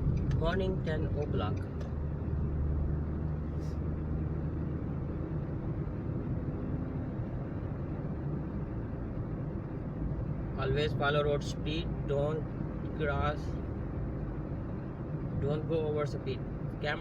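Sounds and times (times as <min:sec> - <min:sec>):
car cabin engine and road hum: 0:00.0 - 0:17.0.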